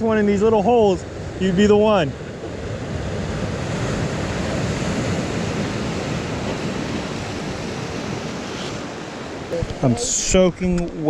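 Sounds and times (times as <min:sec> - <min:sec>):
ocean surf washing ashore: 0:00.0 - 0:11.0
wind on microphone: 0:00.8 - 0:11.0.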